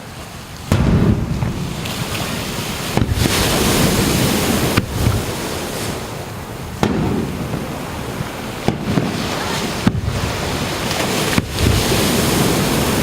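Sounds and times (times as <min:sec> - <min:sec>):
surf rushing: 0:00.0 - 0:13.0.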